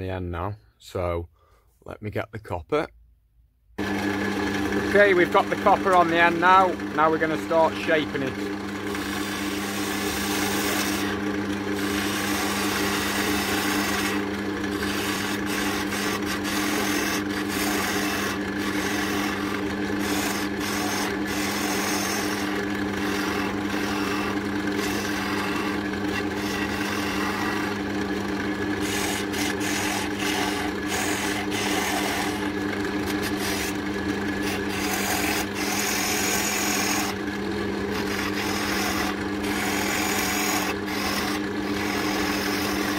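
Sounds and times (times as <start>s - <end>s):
turning tool scraping wood: 3.8s - 42.9s
wood lathe motor hum: 3.8s - 42.9s.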